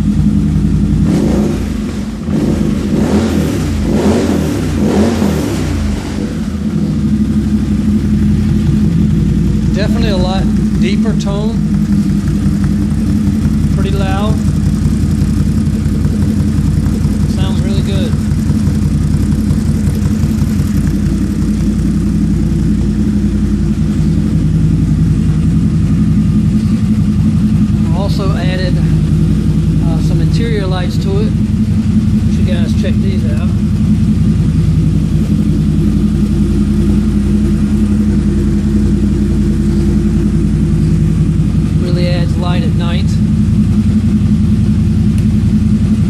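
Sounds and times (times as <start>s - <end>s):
engine revving and idling: 0.0s - 46.0s.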